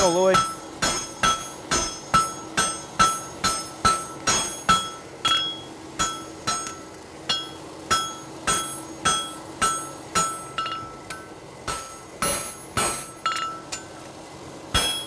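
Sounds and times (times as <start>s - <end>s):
hammer blows on anvil: 0.0s - 13.8s, 14.7s - 15.0s.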